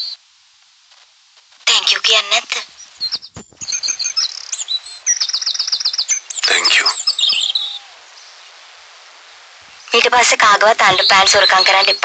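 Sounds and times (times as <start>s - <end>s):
faint hiss: 0.0s - 12.0s
birds chirping: 1.7s - 12.0s.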